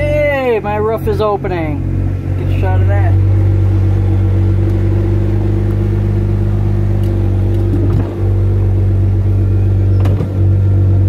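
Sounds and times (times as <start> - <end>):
car roof motor humming: 0.0 - 11.0.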